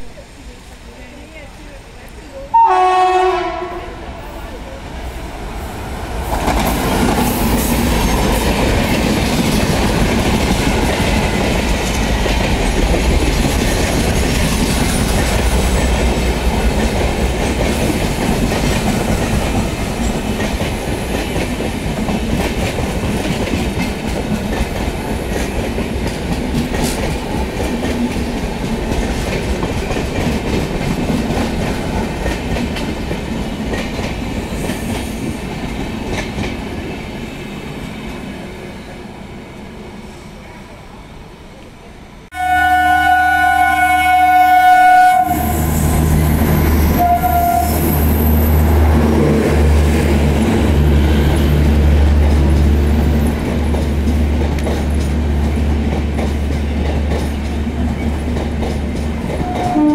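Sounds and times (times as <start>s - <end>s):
train wheels rumbling on rails: 0.0s - 39.3s, 42.2s - 59.9s.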